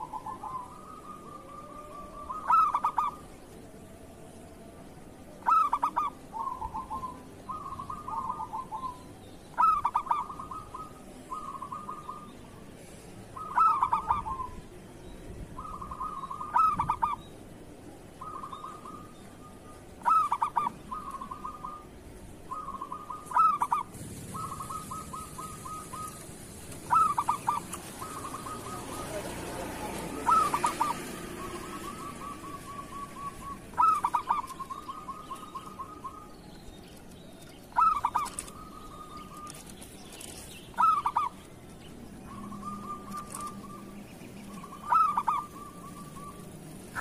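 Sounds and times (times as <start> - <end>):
dove cooing song: 0.0 - 12.7, 13.3 - 14.8, 15.4 - 17.2, 18.2 - 36.8, 37.4 - 47.0.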